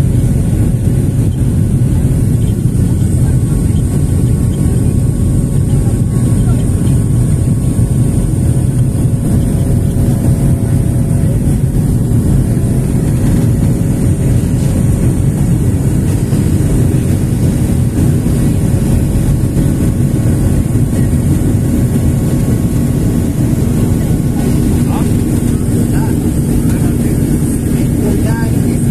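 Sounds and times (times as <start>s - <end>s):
jet airliner cabin engine noise: 0.0s - 28.9s.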